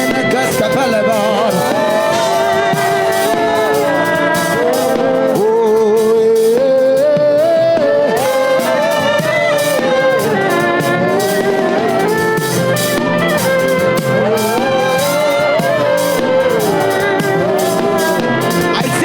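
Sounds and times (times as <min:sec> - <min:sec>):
worship band playing: 0:00.0 - 0:19.0.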